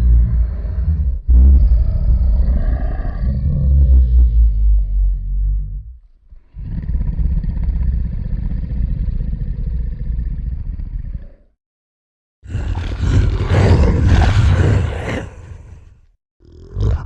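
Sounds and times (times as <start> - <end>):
deep rumbling roar: 0.0 - 11.5, 12.5 - 15.9.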